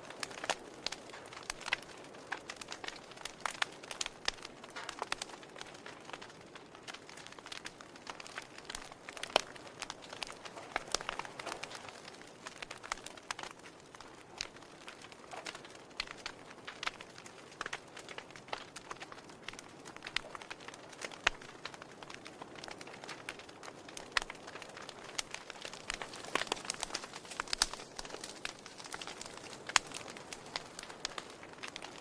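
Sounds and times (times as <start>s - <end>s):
wood fire crackling: 0.0s - 32.0s
fire hissing: 0.1s - 32.0s.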